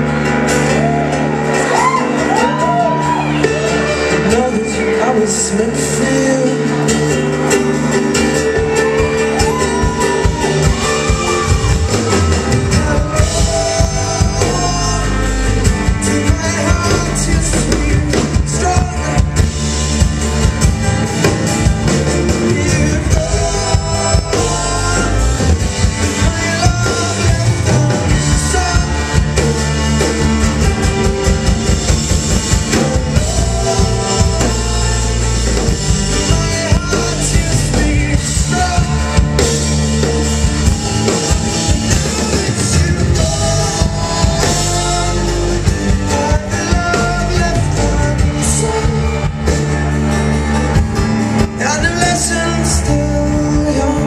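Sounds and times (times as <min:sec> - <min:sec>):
acoustic guitar: 0:00.0 - 0:54.0
bass guitar: 0:00.0 - 0:54.0
drum kit: 0:00.0 - 0:54.0.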